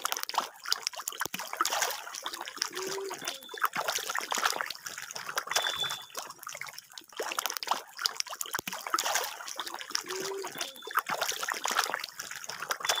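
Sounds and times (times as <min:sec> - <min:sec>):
fish splashing at water surface: 0:00.0 - 0:13.0.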